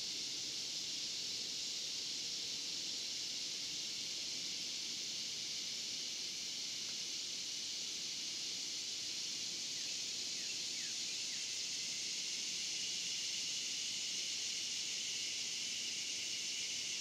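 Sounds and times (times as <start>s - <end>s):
cicadas chorus: 0.0s - 17.0s.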